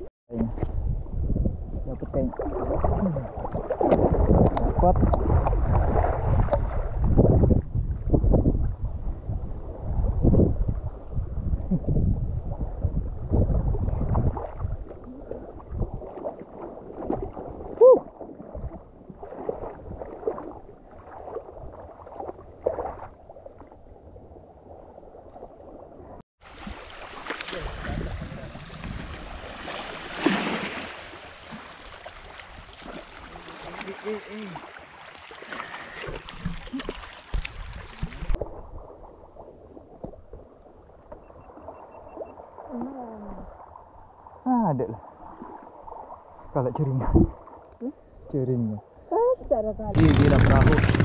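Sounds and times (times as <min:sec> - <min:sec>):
water gurgling and lapping: 0:00.0 - 0:51.0.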